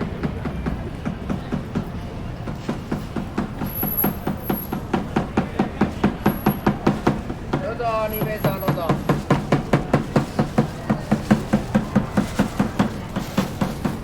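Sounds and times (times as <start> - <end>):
footsteps on hard paving: 0.1 - 14.0.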